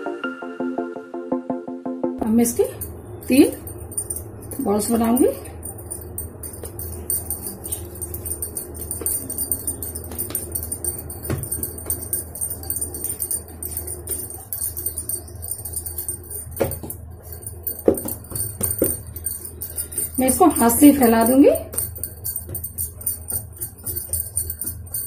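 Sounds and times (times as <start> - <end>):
bangles jingling: 2.2 - 25.0.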